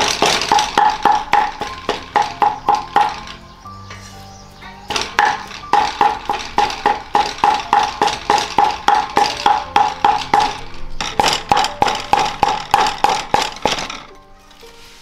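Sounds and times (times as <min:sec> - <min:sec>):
cleaver chopping on wooden block: 0:00.0 - 0:03.3, 0:04.9 - 0:13.9.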